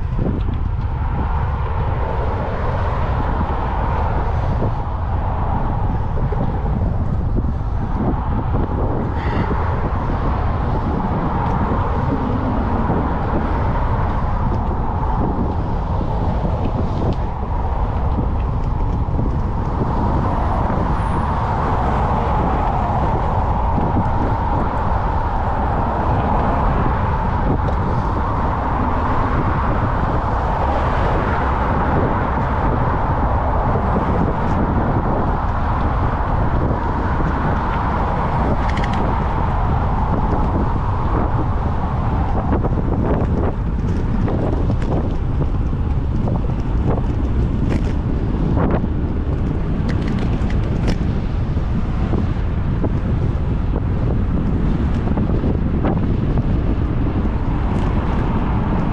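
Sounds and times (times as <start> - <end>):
bicycle road noise: 0.0 - 58.9
road traffic: 0.0 - 58.9
wind rush: 0.0 - 58.9.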